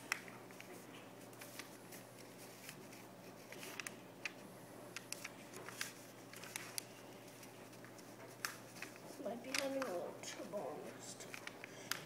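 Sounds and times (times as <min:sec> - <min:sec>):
faint low hum: 0:00.0 - 0:12.0
paper folding and crinkling: 0:00.0 - 0:12.0.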